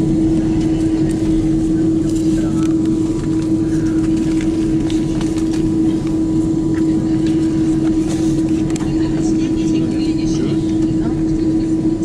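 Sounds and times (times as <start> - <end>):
aircraft cabin hum: 0.0 - 12.0
low rumble: 0.0 - 12.0.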